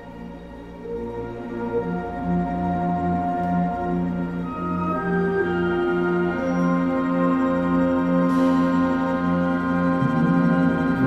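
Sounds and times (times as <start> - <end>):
symphony orchestra playing: 0.0 - 11.0.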